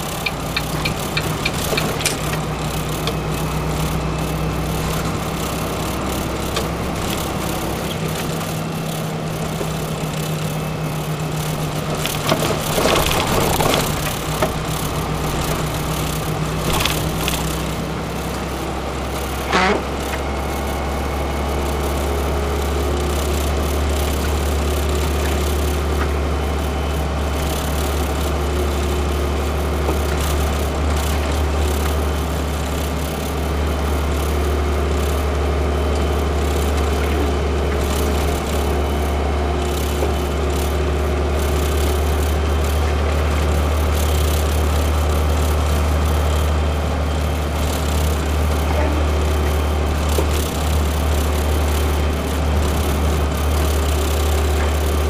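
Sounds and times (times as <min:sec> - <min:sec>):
rattling and knocks from bumps: 0:00.0 - 0:20.2, 0:27.4 - 0:55.0
diesel truck engine running: 0:00.0 - 0:55.0.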